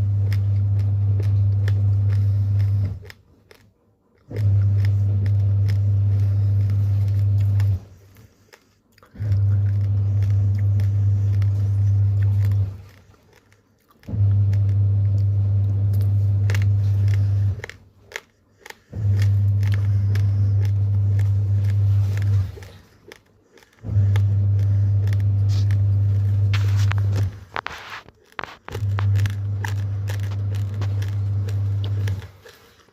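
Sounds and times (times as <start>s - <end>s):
rice grains crunching while chewed: 0.0s - 32.9s.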